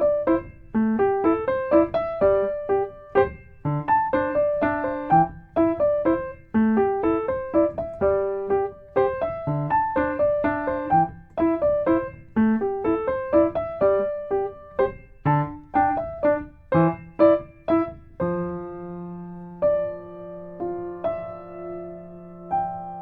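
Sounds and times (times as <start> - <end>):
gentle solo piano: 0.0 - 23.0.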